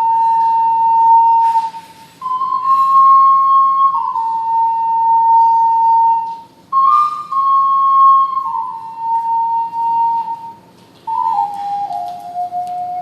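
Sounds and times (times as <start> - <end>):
ocarina slow melody: 0.0 - 13.0.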